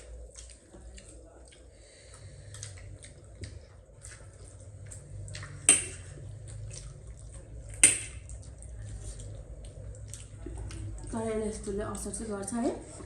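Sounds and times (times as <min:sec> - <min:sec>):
wet eating clicks and smacks: 0:00.0 - 0:12.2.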